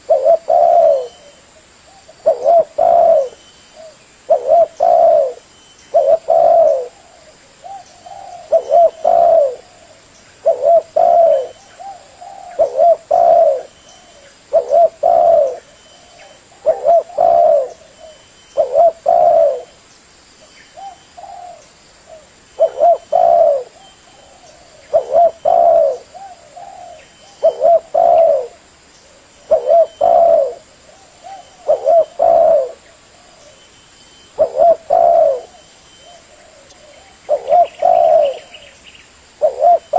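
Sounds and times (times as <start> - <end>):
dove cooing: 0.0 - 19.8, 20.7 - 39.9.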